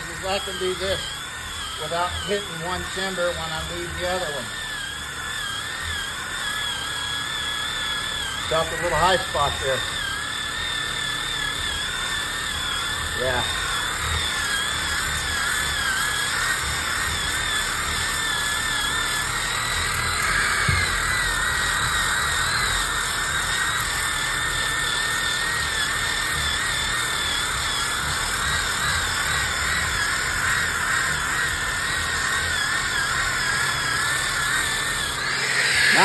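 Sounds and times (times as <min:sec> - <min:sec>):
electric sander on wood: 0:00.0 - 0:36.0.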